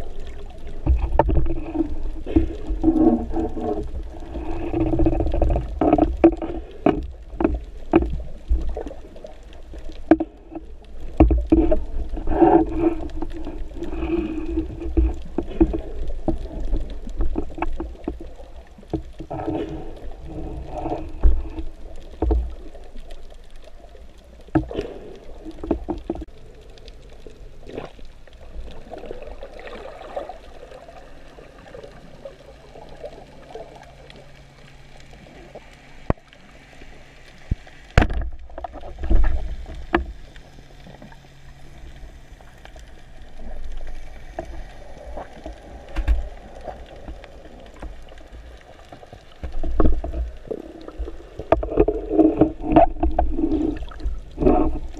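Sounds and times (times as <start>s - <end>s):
muffled underwater water wash: 0.0s - 54.9s.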